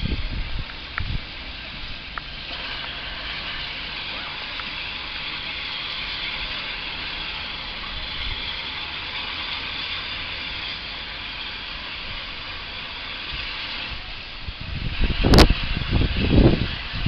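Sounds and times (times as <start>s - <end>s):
steam hissing: 0.0s - 17.0s.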